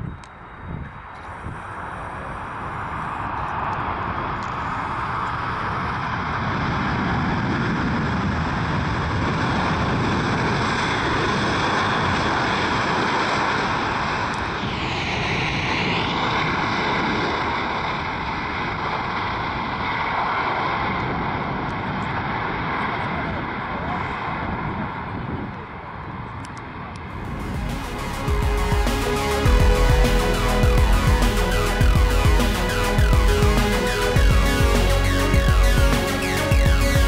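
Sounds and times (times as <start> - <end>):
aircraft whoosh: 0.0 - 21.4, 27.1 - 37.0
jet engines running loud: 0.0 - 37.0.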